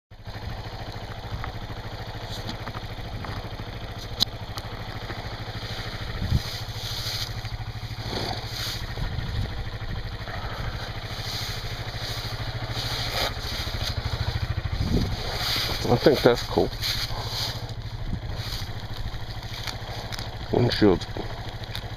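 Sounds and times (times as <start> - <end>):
motorcycle engine idling: 0.1 - 21.9.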